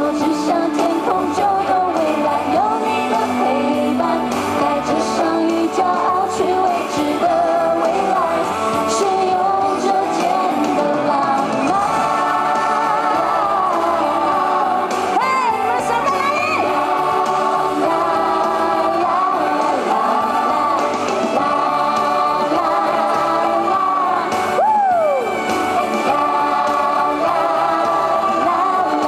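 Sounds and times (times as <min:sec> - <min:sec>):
pop band over sound system: 0:00.0 - 0:29.0.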